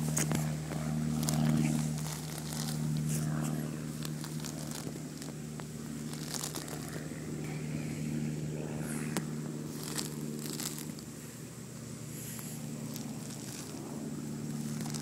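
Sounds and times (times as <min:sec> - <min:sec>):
crackles and rustles: 0:00.0 - 0:07.7, 0:08.9 - 0:11.4, 0:12.2 - 0:15.0
low mechanical hum: 0:00.0 - 0:15.0.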